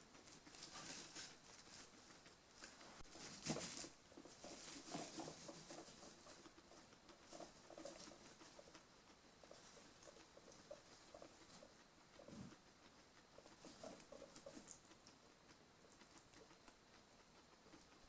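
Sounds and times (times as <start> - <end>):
guinea pigs rustling in bedding: 0.0 - 18.0.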